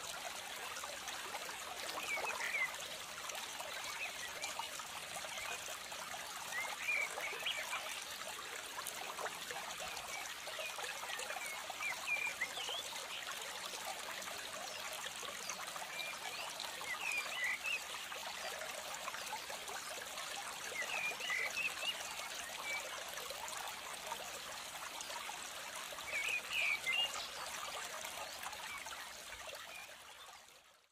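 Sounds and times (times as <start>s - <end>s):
water trickling: 0.0s - 30.7s.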